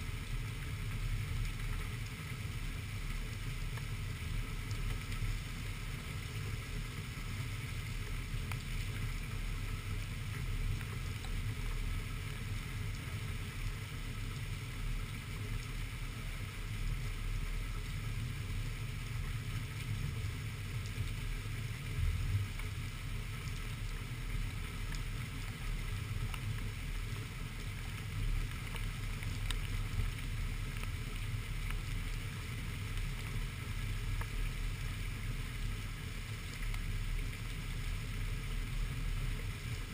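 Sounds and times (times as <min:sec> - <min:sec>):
heavy rain and wind: 0:00.0 - 0:39.9.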